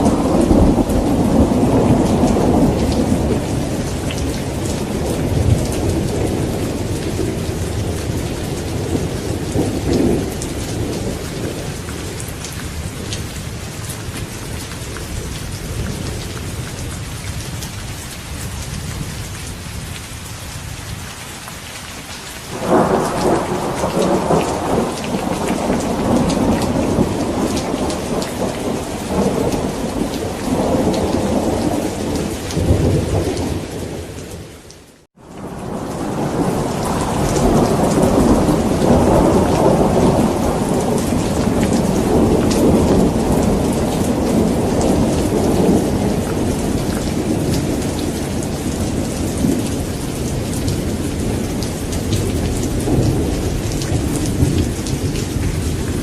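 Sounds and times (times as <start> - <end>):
thunder rumbling: 0.0 - 16.6, 22.5 - 34.4, 35.2 - 56.0
rain falling: 0.0 - 56.0.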